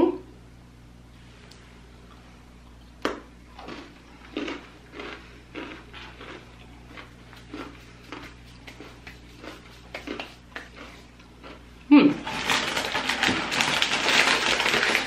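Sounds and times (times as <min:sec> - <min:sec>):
crunchy chewing: 0:02.7 - 0:15.0.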